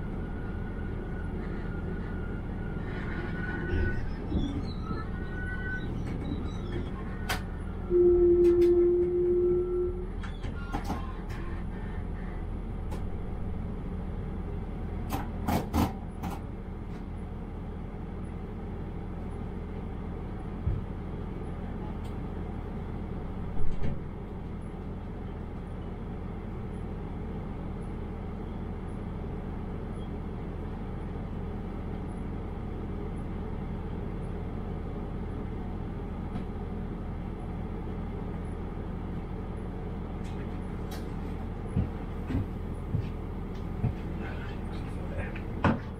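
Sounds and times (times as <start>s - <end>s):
diesel railcar idling: 0.0s - 45.9s.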